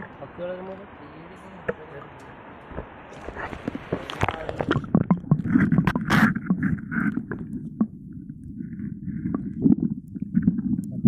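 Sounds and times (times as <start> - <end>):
muffled underwater sloshing: 1.6 - 11.0.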